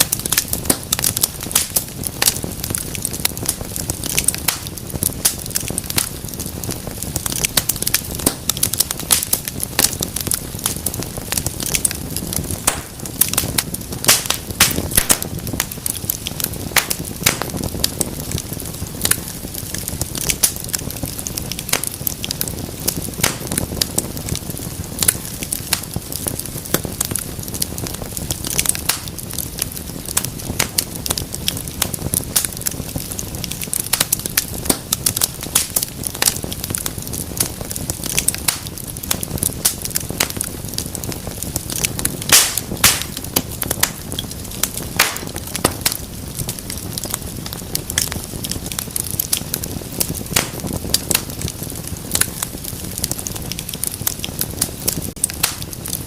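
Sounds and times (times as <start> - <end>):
fire snapping and popping: 0.0 - 56.0
flames rumbling: 0.0 - 56.0.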